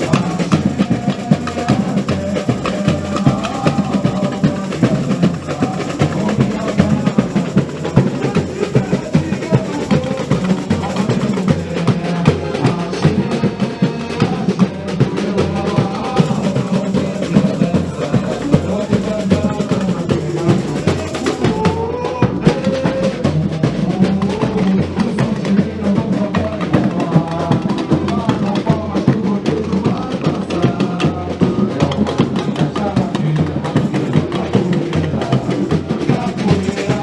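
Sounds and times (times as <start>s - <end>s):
hand percussion: 0.0s - 23.0s, 24.2s - 37.0s
rattling snare drums: 0.0s - 37.0s.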